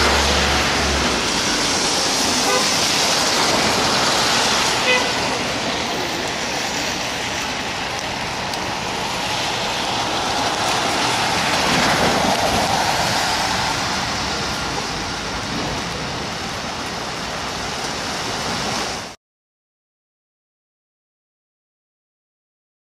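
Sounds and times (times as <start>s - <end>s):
tyres hissing on wet pavement: 0.0s - 19.2s.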